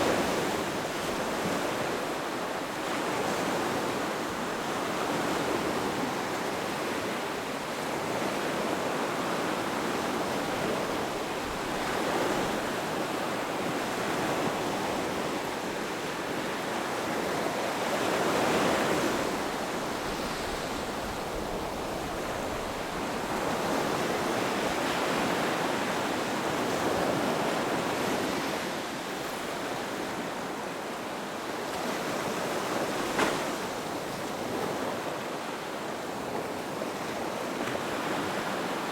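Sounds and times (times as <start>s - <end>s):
ocean surf washing onto beach: 0.0s - 38.9s.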